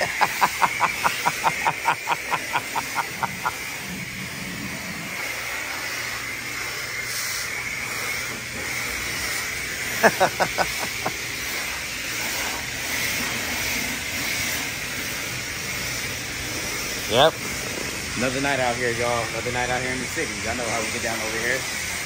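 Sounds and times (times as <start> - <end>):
pressure spray wand hissing: 0.0 - 22.0
rapid spray pulses: 0.0 - 22.0.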